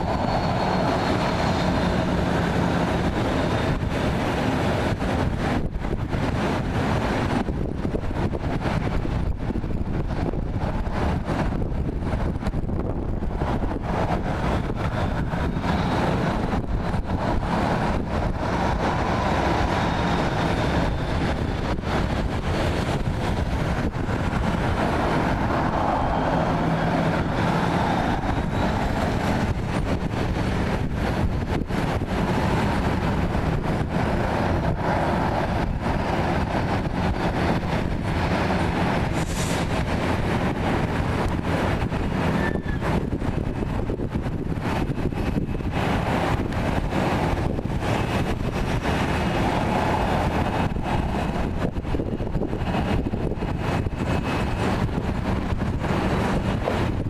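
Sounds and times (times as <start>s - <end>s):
jet engines rushing: 0.0s - 57.0s
wind on microphone: 0.0s - 57.0s.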